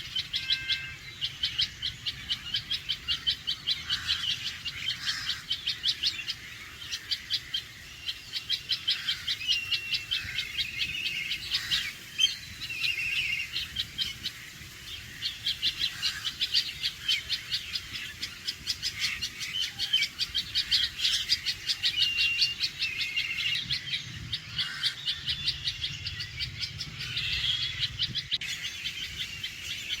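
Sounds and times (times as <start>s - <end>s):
bird alarm calling sharp notes: 0.0s - 30.0s.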